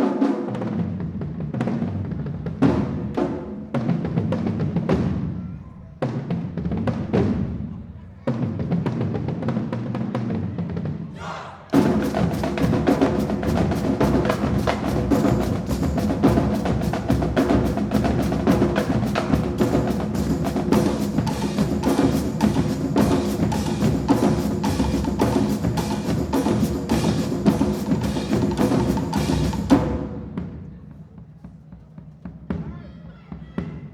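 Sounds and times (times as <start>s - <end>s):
marching drumline playing: 0.0s - 33.9s.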